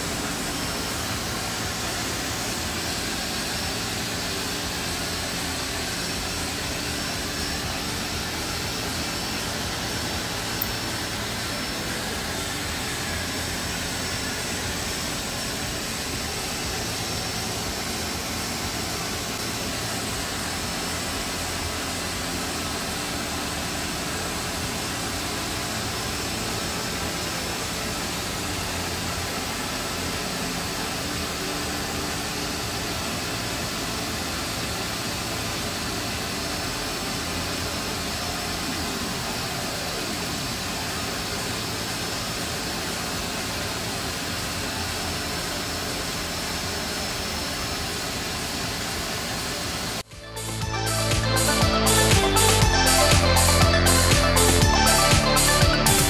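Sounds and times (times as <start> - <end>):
cooling fans whirring: 0.0 - 56.0
faint high whine: 0.0 - 56.0.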